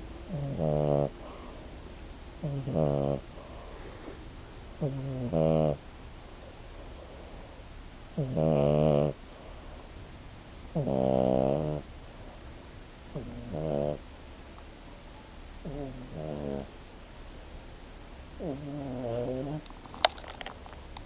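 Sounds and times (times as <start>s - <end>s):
puppy snoring: 0.0s - 10.0s, 10.7s - 12.4s, 13.1s - 14.1s, 15.6s - 17.3s, 18.4s - 21.0s.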